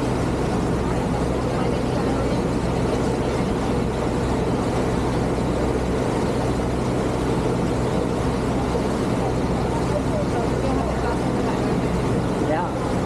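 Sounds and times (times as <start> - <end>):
boat engine drone: 0.0 - 13.0
rushing water noise: 0.0 - 13.0.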